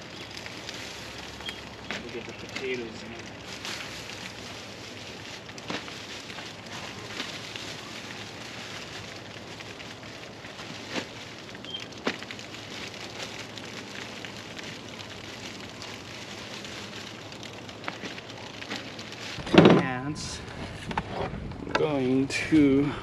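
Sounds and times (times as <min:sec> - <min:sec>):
leaf rustles: 0:00.0 - 0:23.0
steady crackly hiss: 0:00.0 - 0:23.0.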